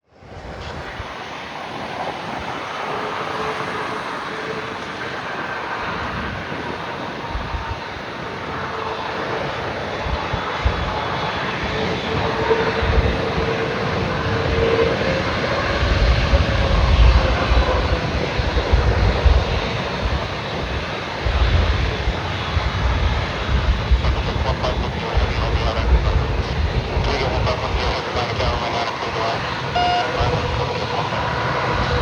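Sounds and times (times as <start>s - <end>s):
jet engines whining: 0.2s - 32.0s.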